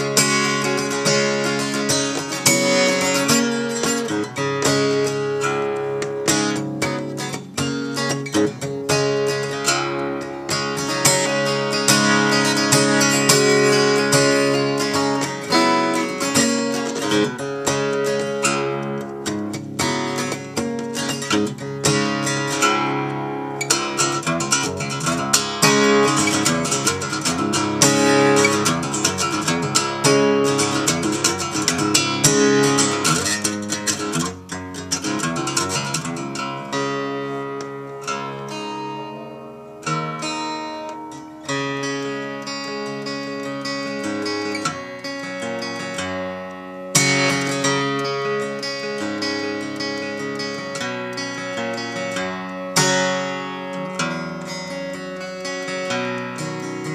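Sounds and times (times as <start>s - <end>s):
acoustic guitar strummed chords: 0.0s - 56.9s.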